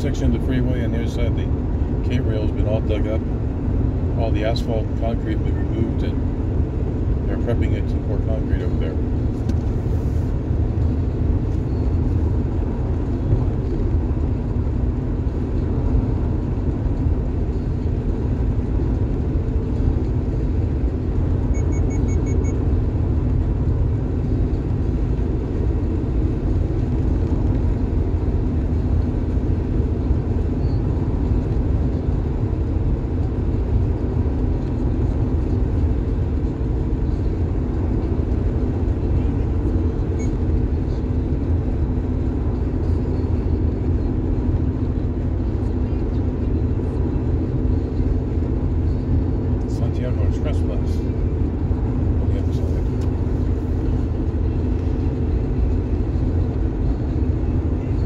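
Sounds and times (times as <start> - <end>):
car cabin road noise: 0.0 - 58.0.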